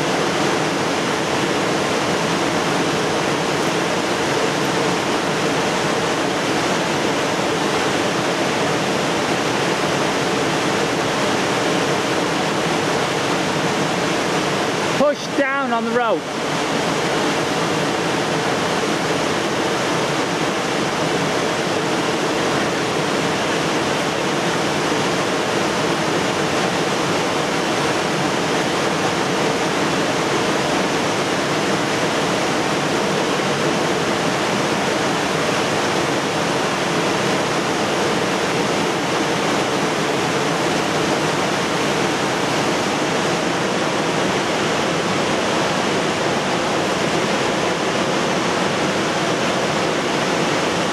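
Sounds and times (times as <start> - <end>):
fast river rushing: 0.0 - 50.9.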